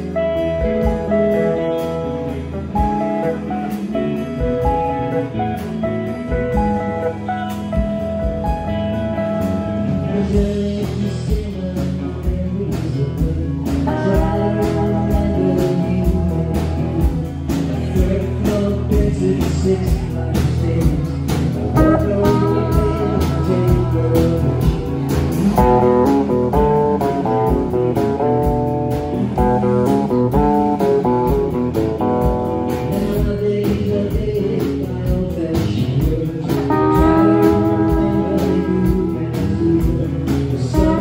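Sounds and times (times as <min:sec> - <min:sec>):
drum kit beat: 0:00.0 - 0:41.0
electric guitars: 0:00.0 - 0:41.0.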